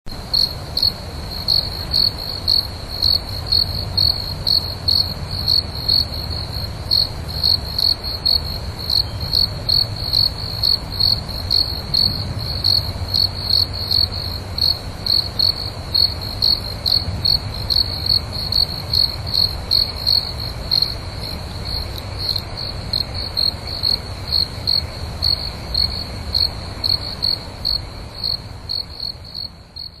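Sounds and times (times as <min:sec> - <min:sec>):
crickets chirping: 0:00.1 - 0:30.0.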